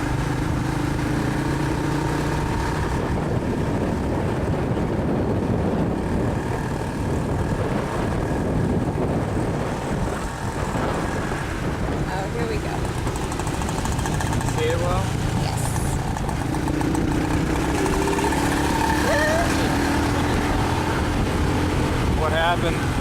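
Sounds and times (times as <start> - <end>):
motorcycle engine running: 0.0 - 23.0
traffic noise: 0.0 - 23.0.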